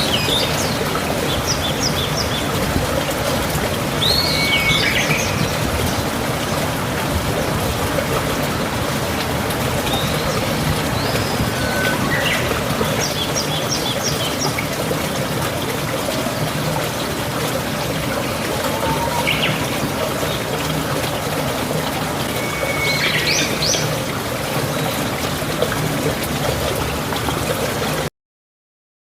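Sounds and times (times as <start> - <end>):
stream water flowing: 0.0 - 28.1.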